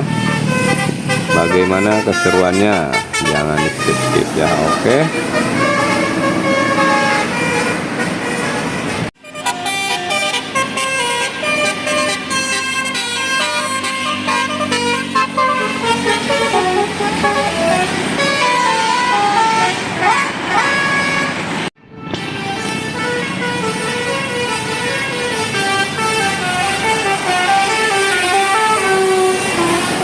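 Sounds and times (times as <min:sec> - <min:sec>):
bus musical horn playing tune: 0:00.0 - 0:30.0.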